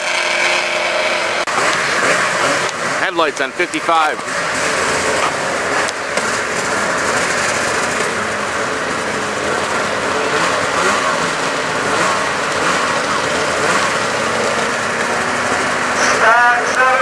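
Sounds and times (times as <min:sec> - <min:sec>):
snowmobile engines idling: 0:00.0 - 0:17.0.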